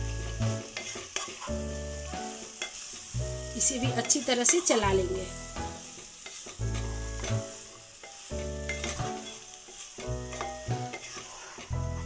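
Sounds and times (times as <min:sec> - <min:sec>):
frying hiss: 0:00.0 - 0:12.0
spatula stirring in a pan: 0:00.0 - 0:12.0.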